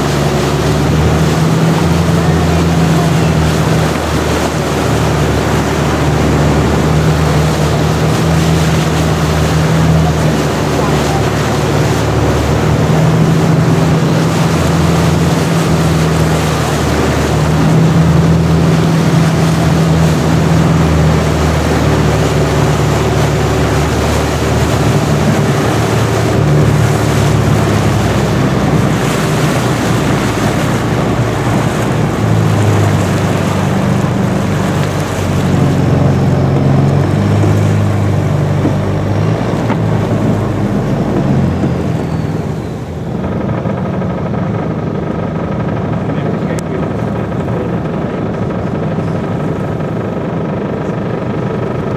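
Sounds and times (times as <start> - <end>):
boat engine running: 0.0 - 51.9
water rushing past hull: 0.0 - 51.9.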